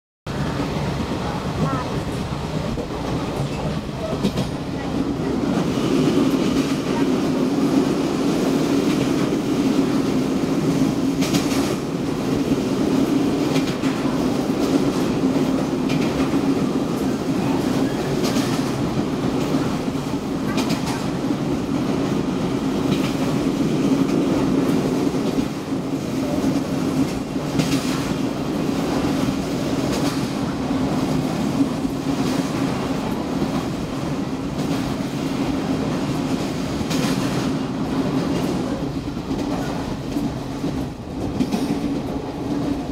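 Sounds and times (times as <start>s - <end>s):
train rumbling over bridge: 0.3s - 42.9s.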